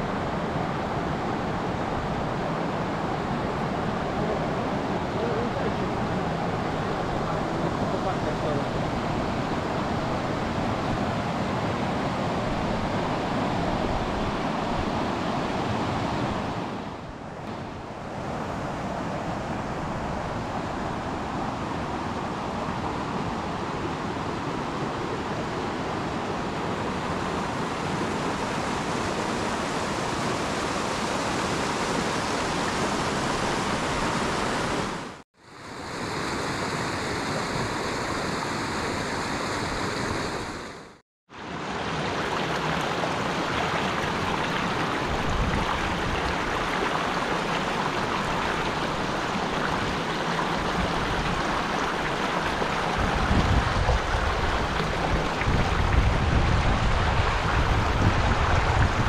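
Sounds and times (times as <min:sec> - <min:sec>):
river rushing over rapids: 0:00.0 - 0:59.0.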